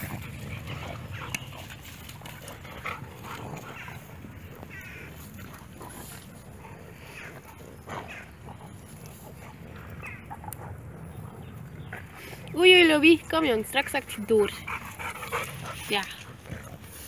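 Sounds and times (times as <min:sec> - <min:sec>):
dogs making small noises: 0:00.0 - 0:17.0.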